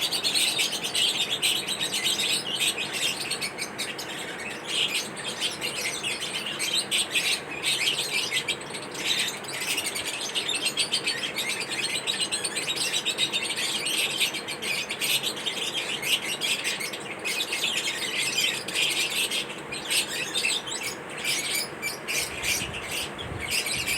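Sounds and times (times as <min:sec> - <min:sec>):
lovebirds chirping: 0:00.0 - 0:23.9.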